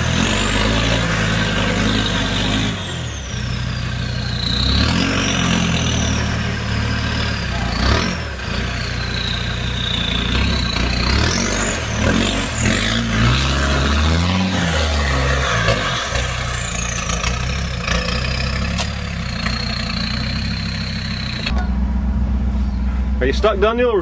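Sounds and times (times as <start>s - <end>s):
car engine revving under load: 0.0s - 23.5s.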